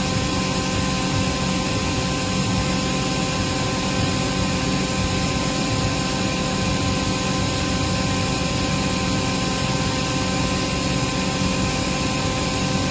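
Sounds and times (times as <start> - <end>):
air compressor running: 0.0 - 12.9
steady whining tones: 0.0 - 12.9.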